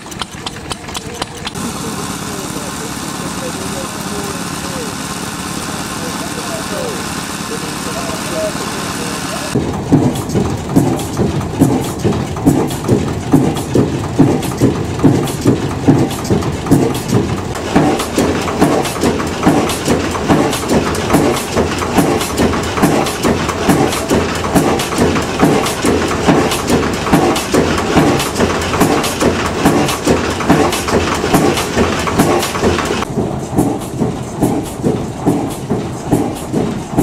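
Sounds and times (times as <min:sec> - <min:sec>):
sharp mechanical clatter: 0:00.0 - 0:37.0
stationary engine running: 0:00.0 - 0:37.0.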